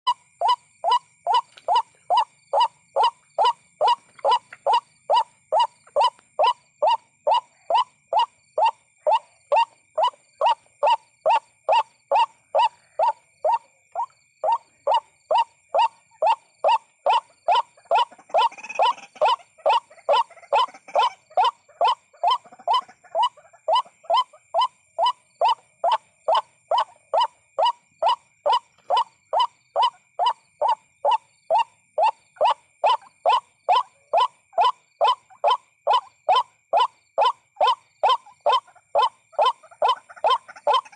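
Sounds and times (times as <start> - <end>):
waterhen calling: 0.1 - 40.9.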